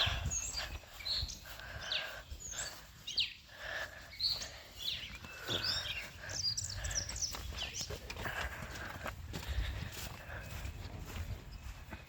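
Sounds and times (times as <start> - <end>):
songbirds chirping and whistling: 0.0 - 12.0.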